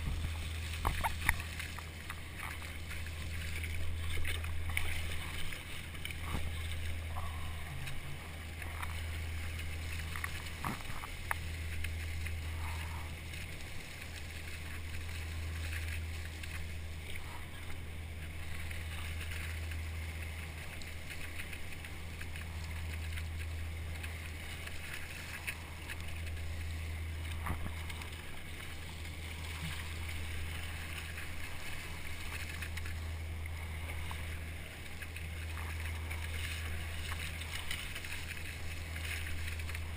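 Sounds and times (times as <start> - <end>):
low drone: 0.0 - 39.9
wake water rushing and splashing: 0.0 - 39.9.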